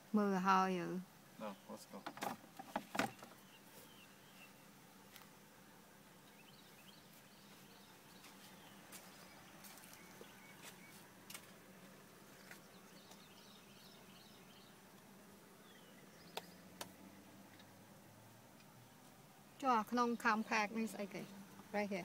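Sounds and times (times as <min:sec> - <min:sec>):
distant birds chirping: 0:00.0 - 0:22.0.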